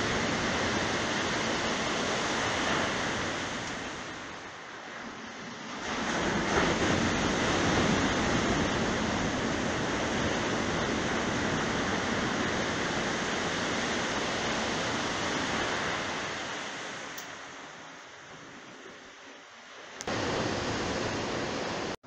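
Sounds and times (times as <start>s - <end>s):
ocean surf roaring: 0.0s - 22.0s.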